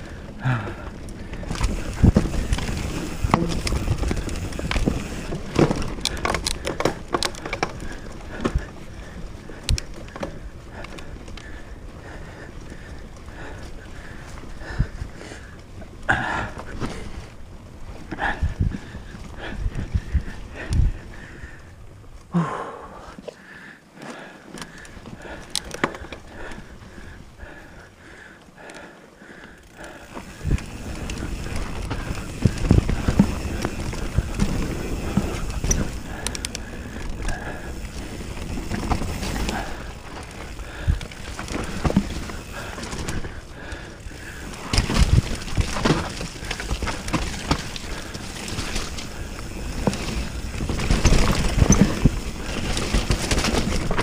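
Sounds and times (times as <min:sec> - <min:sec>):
bike clicking and rattling: 0:00.0 - 0:54.0
bike tyres rumbling over rough ground: 0:00.0 - 0:54.0.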